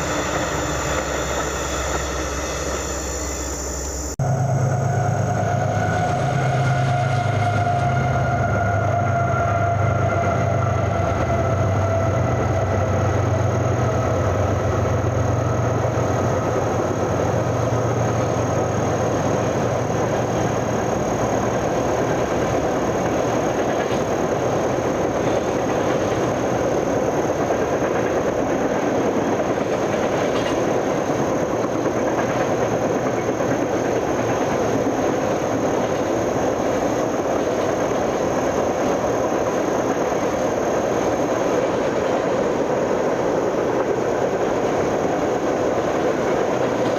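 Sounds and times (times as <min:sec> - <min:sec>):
locomotive engine hum: 0:00.0 - 0:46.9
train cars rumbling and rattling: 0:00.0 - 0:46.9.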